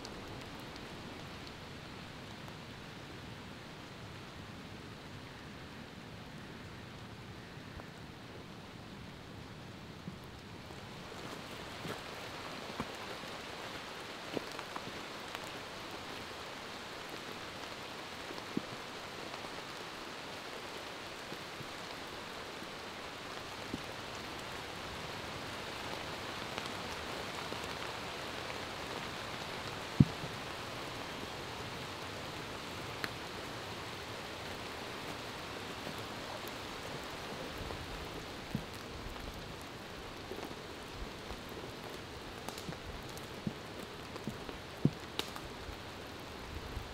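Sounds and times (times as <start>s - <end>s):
rain on leaves: 0.0s - 46.9s.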